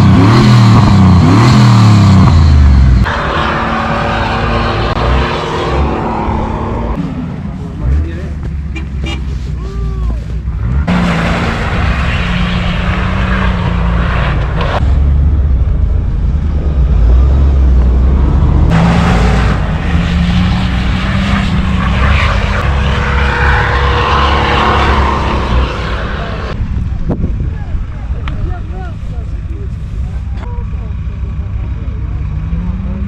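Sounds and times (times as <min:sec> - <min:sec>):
vehicle engine driving off-road: 0:00.0 - 0:33.0.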